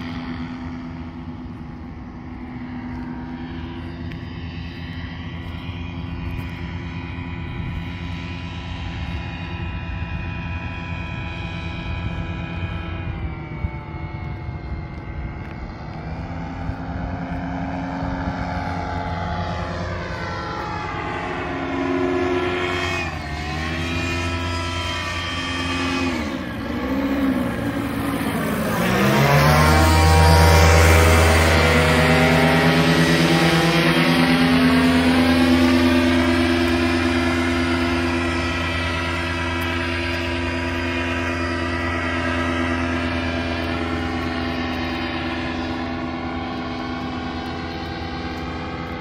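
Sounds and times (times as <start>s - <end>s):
paramotor engine and propeller: 0.0s - 49.0s.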